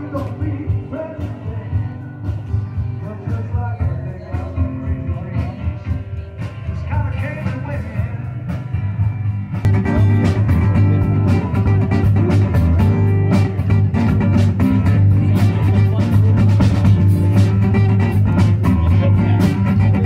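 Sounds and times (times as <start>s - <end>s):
bass guitar: 0.0s - 20.0s
electric guitar: 0.0s - 20.0s
steady drum beat: 0.0s - 20.0s.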